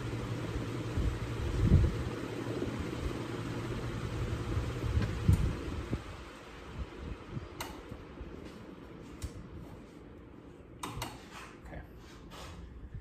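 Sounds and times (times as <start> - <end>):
ceiling fan running: 0.0 - 13.0.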